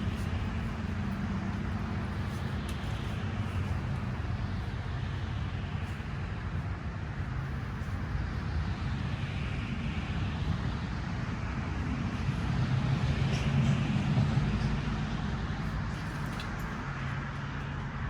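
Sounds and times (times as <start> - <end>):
rumbling outdoor noise: 0.0 - 18.0.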